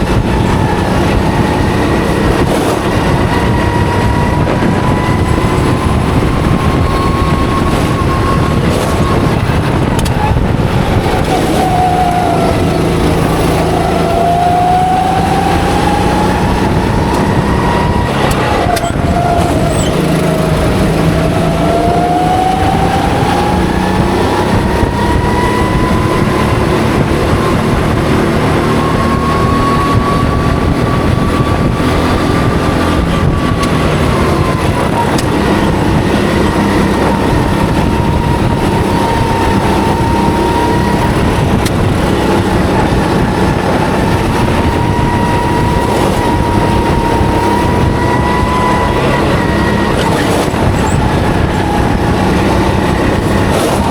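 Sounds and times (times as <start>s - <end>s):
go-kart engine whine: 0.0s - 53.9s.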